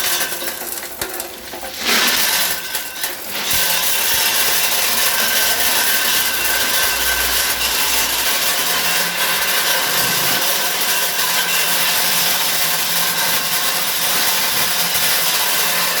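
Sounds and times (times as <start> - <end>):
nut-cracking machine clattering: 0.0 - 16.0.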